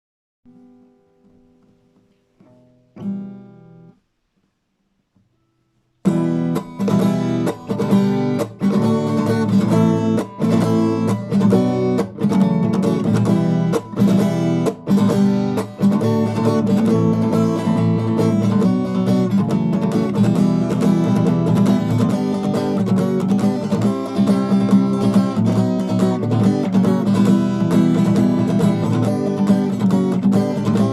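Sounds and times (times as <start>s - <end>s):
acoustic guitar strumming chords: 0.5s - 4.1s, 5.2s - 30.9s.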